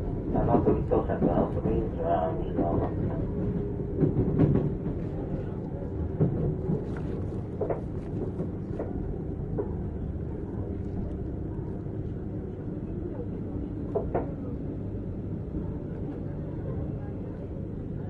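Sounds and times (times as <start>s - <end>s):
train wheels and motors rumbling: 0.0s - 18.0s.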